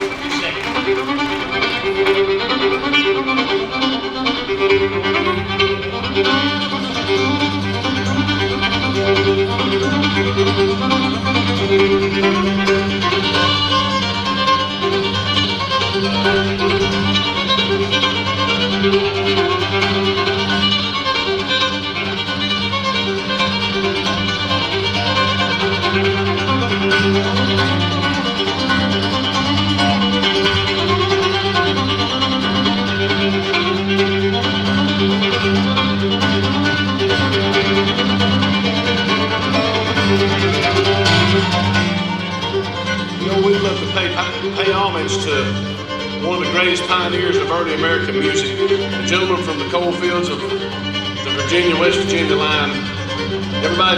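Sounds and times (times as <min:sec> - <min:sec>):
acoustic bluegrass band playing: 0:00.0 - 0:53.9
fiddle: 0:00.0 - 0:53.9.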